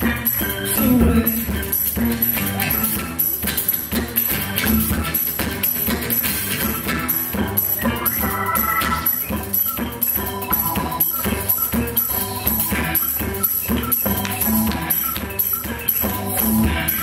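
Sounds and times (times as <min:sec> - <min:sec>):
live band playing instrumental: 0:00.8 - 0:17.0.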